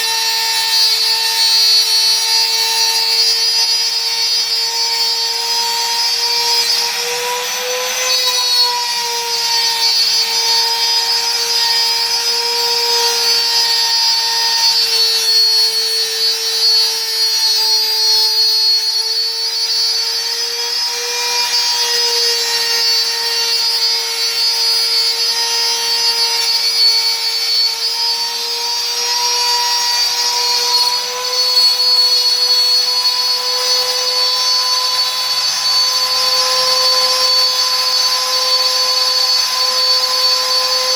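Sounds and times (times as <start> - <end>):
electric sander running: 0.0 - 40.9.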